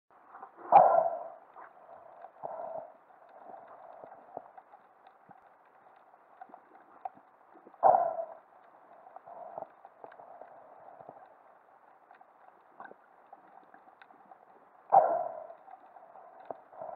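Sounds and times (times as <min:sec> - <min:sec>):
muffled underwater hiss: 0:00.2 - 0:16.9.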